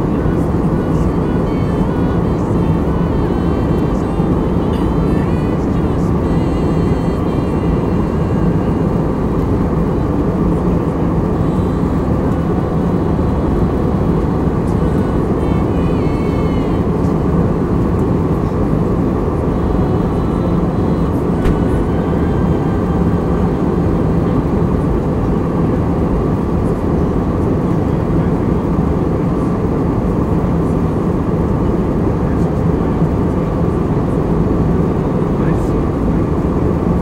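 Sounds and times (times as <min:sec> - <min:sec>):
airliner cabin engine rush: 0:00.0 - 0:37.0
low hum: 0:00.0 - 0:37.0.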